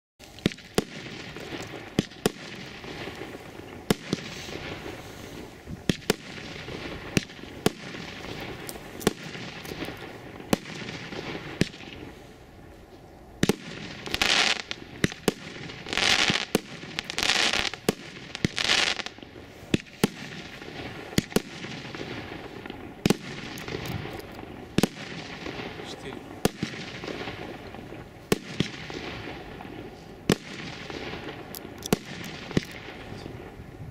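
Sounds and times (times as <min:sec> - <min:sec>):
fireworks bangs: 0:00.2 - 0:33.9
fireworks hissing bursts: 0:00.2 - 0:33.9.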